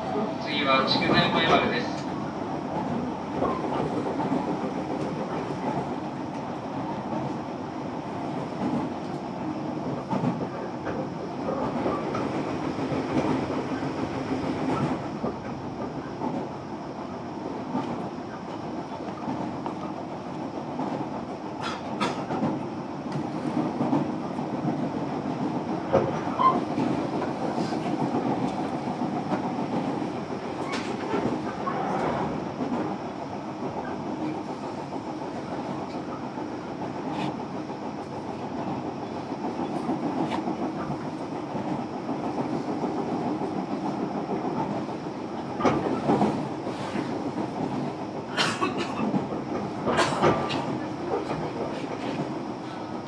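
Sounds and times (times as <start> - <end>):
rail joint clicks: 0.0 - 53.0
train wheels rumbling on rail: 0.0 - 53.0.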